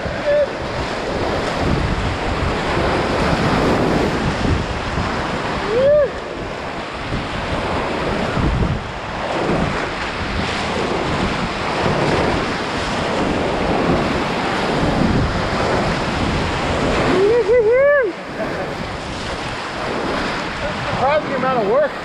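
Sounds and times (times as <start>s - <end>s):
churning whitewater rushing: 0.0s - 22.0s
wind buffeting microphone: 0.0s - 22.0s.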